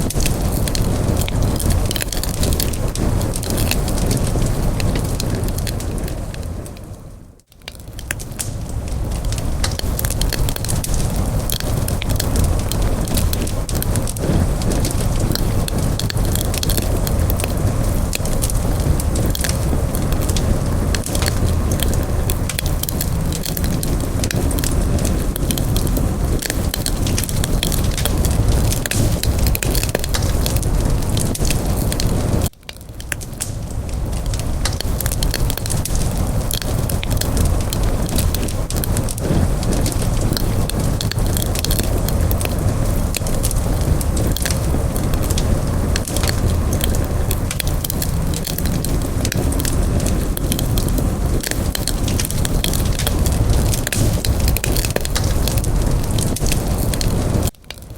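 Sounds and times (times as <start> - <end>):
wood campfire crackling: 0.0 - 57.9.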